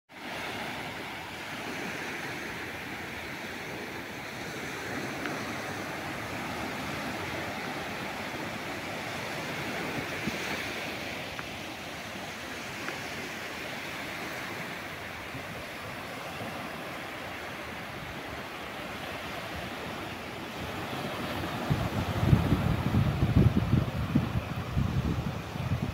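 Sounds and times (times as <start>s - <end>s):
small waves breaking on sand: 0.1s - 25.9s.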